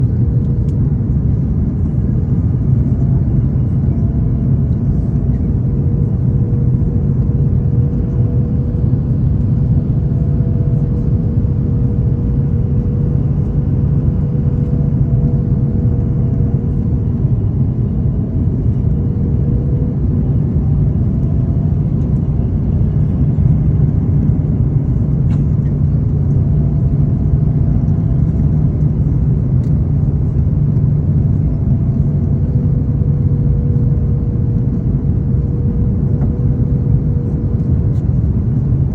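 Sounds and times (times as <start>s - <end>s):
faint steady whine: 0.0s - 38.9s
jet engine rumble: 0.0s - 38.9s.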